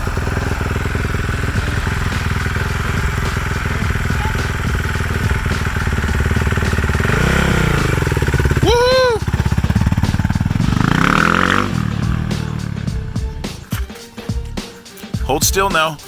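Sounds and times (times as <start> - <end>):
small off-road engine running: 0.0 - 13.7.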